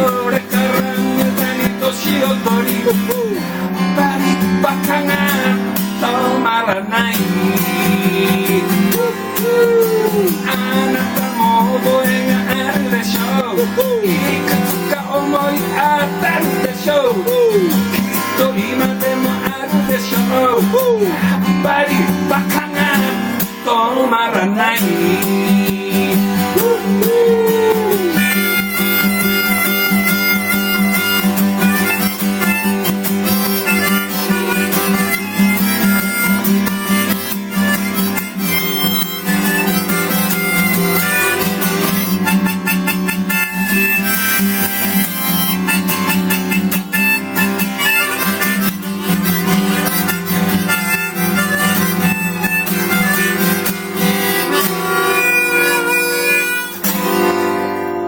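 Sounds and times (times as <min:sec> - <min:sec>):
acoustic guitar: 0:00.0 - 0:58.0
harmonica melody: 0:00.0 - 0:58.0.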